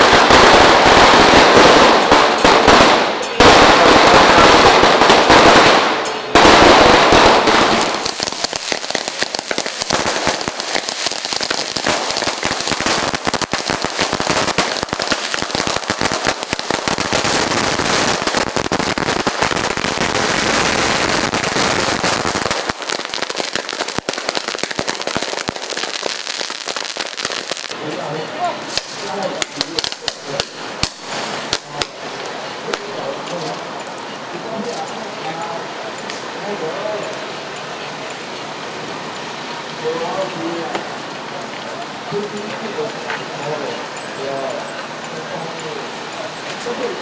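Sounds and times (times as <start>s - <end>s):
firecrackers crackling: 0.0s - 47.0s.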